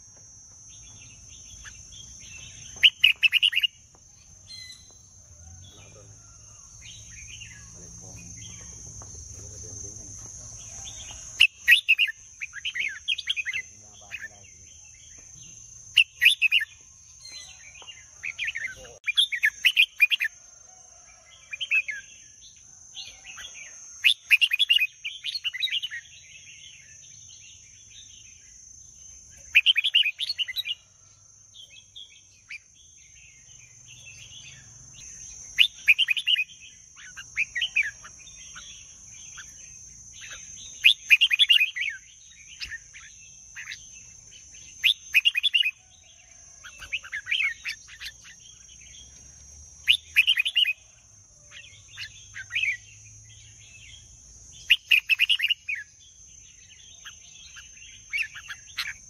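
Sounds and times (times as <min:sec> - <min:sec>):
bird singing chirpy phrases: 0:00.7 - 0:20.4, 0:21.6 - 0:31.0, 0:31.6 - 0:59.0.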